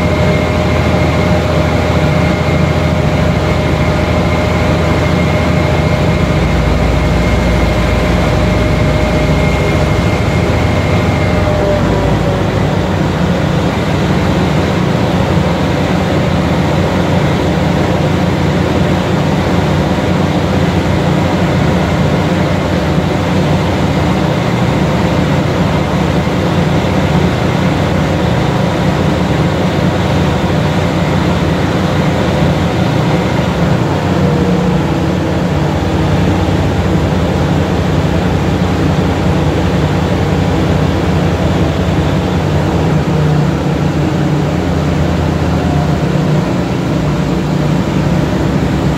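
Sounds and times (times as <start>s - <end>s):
locomotive engine droning: 0.0s - 48.9s.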